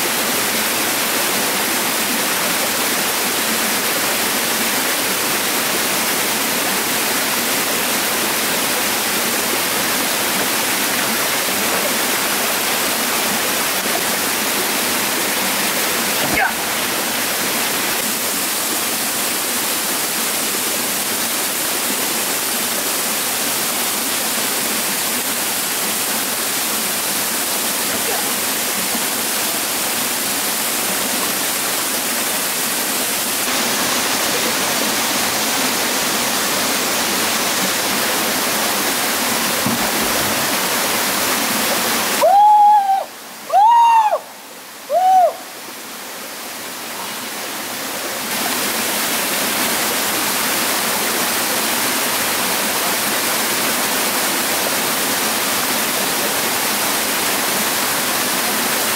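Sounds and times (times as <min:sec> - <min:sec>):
waterfall rushing over rocks: 0:00.0 - 0:58.9.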